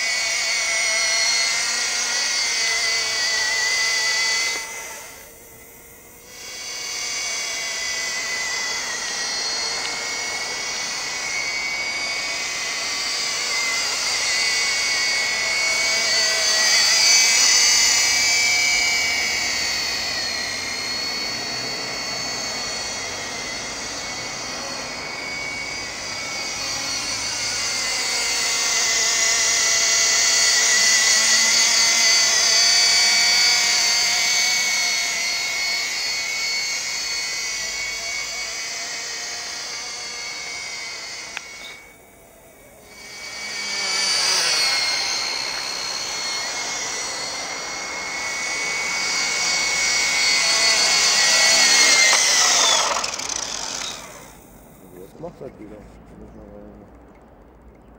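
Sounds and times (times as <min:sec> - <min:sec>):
model helicopter motor whine: 0:00.0 - 0:57.9.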